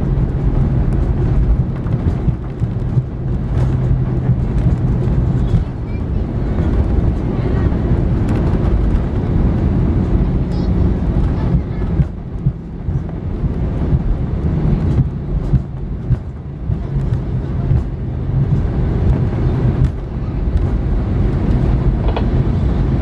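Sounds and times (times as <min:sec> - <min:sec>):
airplane cabin rumble: 0:00.0 - 0:23.0
faint engine hum: 0:00.0 - 0:23.0.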